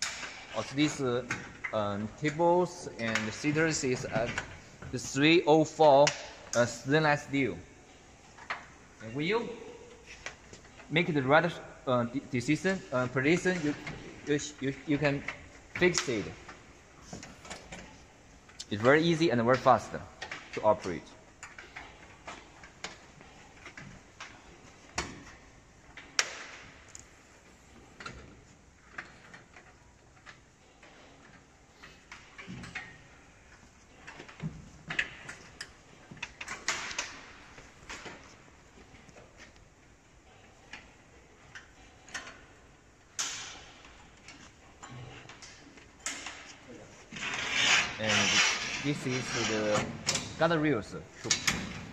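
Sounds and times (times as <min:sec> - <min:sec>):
faint background noise: 0:00.0 - 0:51.9
metal furniture clicking: 0:00.0 - 0:51.9.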